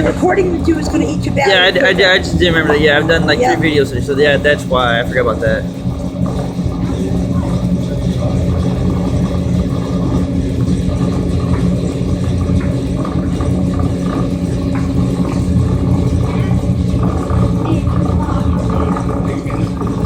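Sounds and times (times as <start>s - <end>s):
boat diesel engine rumbling: 0.0s - 20.0s.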